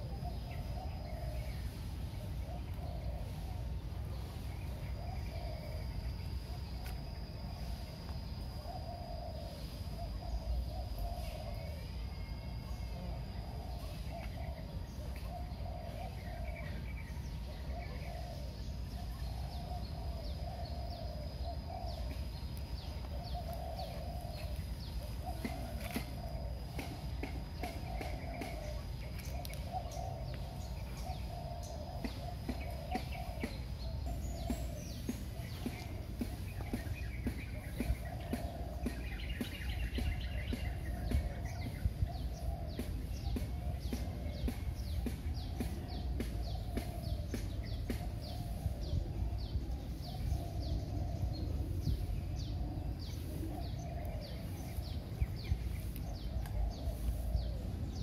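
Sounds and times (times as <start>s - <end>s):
low hooting animal calls: 0.0s - 58.0s
steady low rumble: 0.0s - 58.0s.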